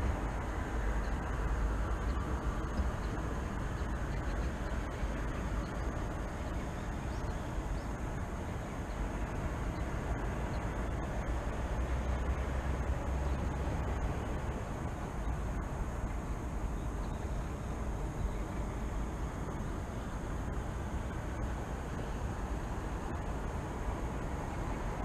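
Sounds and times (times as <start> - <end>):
distant city traffic rumble: 0.0 - 25.0.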